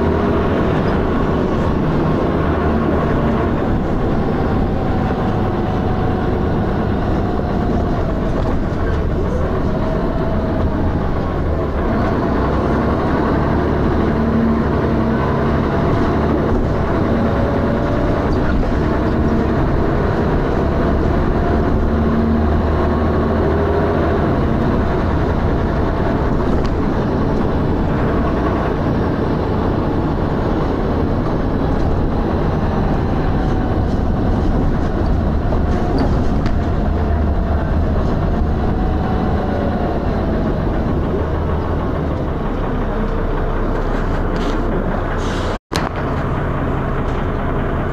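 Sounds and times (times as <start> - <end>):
bus diesel engine thrashing: 0.0 - 47.9.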